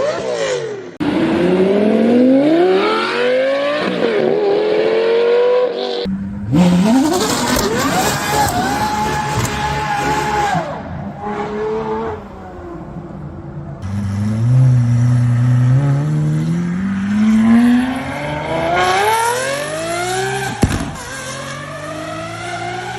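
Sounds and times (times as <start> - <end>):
car engines revving: 0.0 - 22.9.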